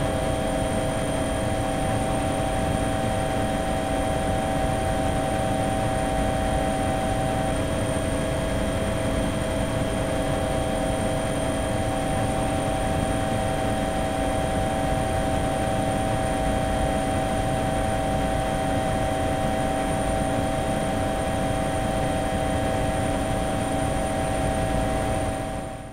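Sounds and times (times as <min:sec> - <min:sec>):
aircraft engines droning: 0:00.0 - 0:25.9.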